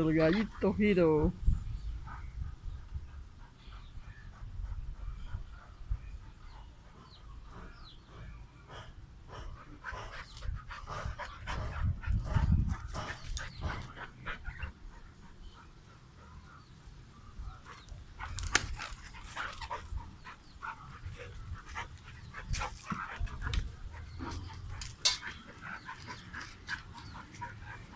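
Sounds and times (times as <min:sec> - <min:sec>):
dog panting: 0:02.0 - 0:16.7, 0:17.7 - 0:27.9.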